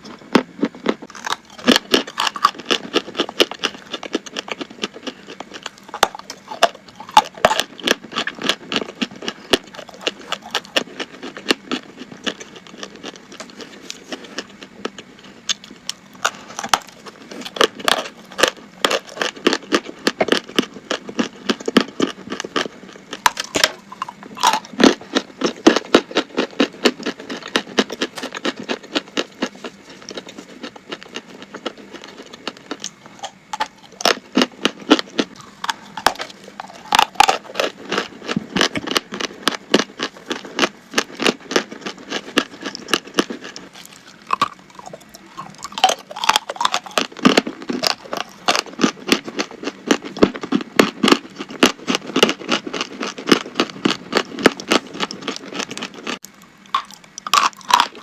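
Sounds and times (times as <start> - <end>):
chalk being bitten and chewed: 0.6 - 58.0.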